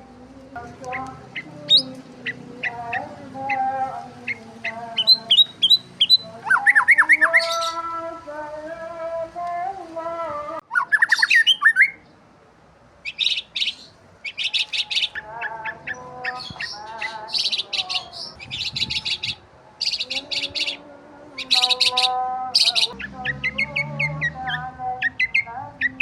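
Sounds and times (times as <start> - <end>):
songbirds chirping rapidly: 0.0 - 10.0, 10.6 - 26.0
held bird warbling: 0.6 - 8.0, 10.7 - 12.0, 13.0 - 26.0.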